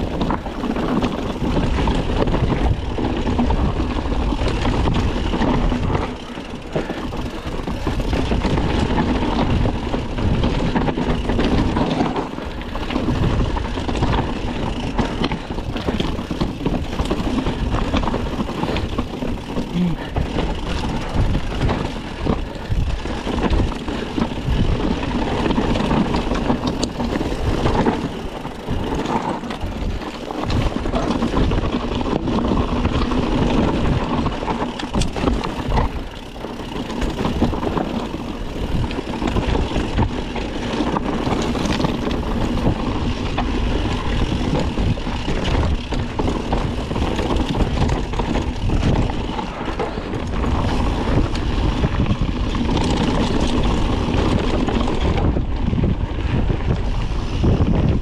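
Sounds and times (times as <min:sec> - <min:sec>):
bike knocks and rattles: 0:00.0 - 0:58.0
bike tyres crunching on dirt: 0:00.0 - 0:58.0.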